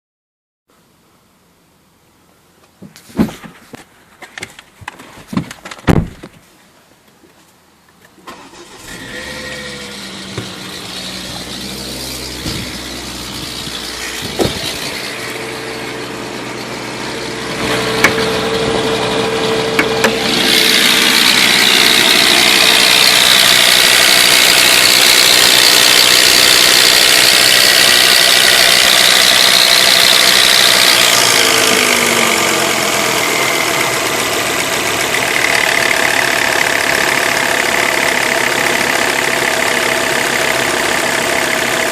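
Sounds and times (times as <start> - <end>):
car engine starting and idling: 8.1 - 41.9
loud high-pitched engine noise: 8.3 - 41.9.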